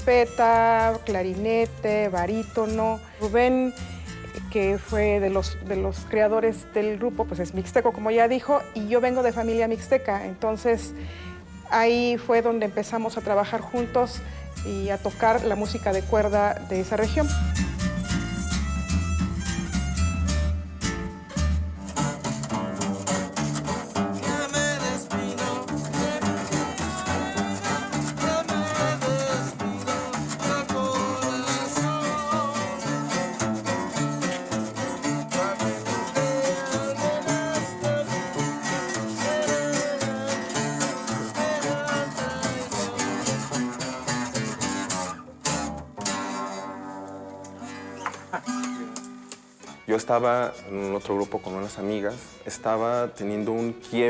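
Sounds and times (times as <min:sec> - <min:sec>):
plucked guitar strings: 0:00.0 - 0:54.0.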